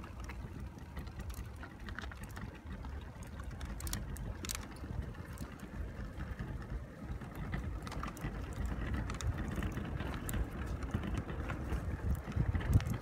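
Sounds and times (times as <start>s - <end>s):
clicks and rattles: 0.0s - 13.0s
low rumble of tyres: 0.0s - 13.0s
wind on microphone: 0.0s - 13.0s.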